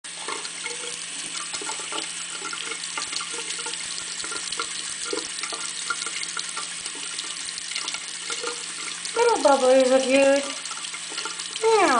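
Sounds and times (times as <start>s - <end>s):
tap water running into sink: 0.0s - 11.9s.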